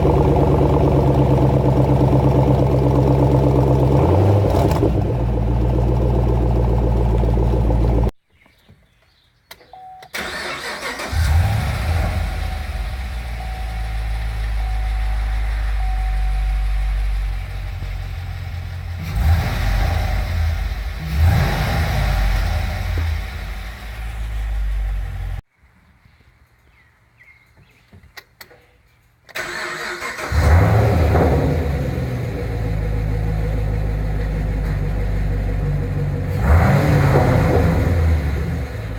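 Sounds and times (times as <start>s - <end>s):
car engine idling: 0.0s - 8.2s, 10.2s - 25.4s, 30.1s - 38.9s
car engine starting and revving: 0.0s - 8.2s, 10.2s - 25.4s, 29.4s - 38.9s.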